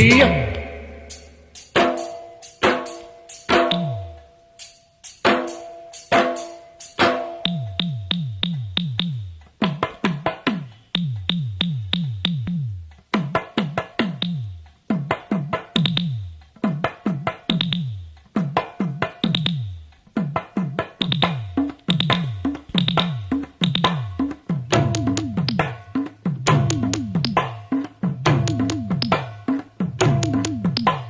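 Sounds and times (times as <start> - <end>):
electronic drum machine toms: 0.0 - 4.2, 5.2 - 31.0.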